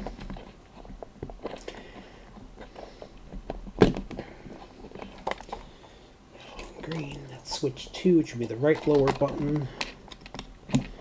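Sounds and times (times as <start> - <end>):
wire connectors clicking and scraping: 0.0 - 11.0.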